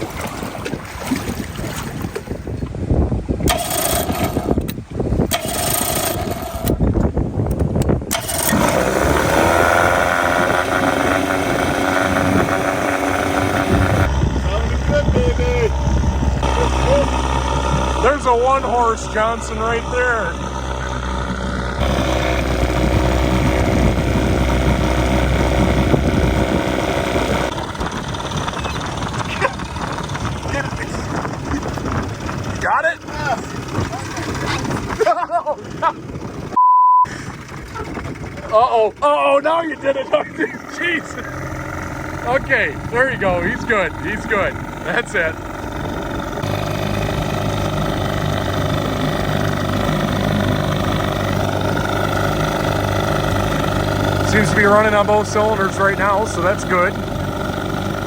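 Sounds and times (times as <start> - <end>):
outboard motor misfiring: 0.0 - 58.0.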